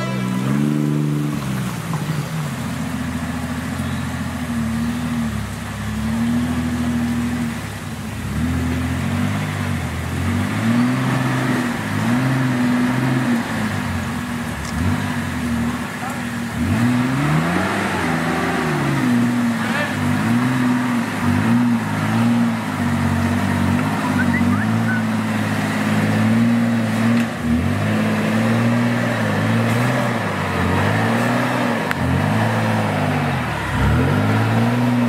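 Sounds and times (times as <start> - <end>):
engine revving: 0.0 - 35.0.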